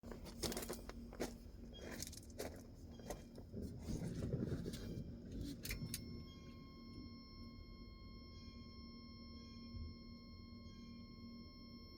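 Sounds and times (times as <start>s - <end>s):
faint steady hum: 0.0s - 11.9s.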